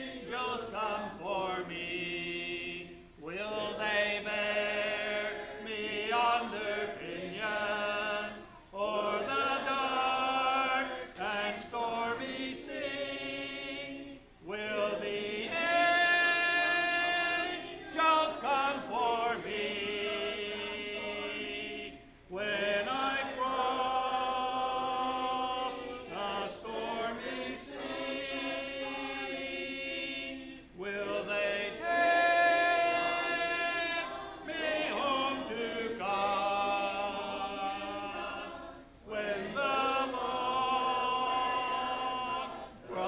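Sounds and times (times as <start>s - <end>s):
congregation singing a hymn: 0.0s - 43.0s.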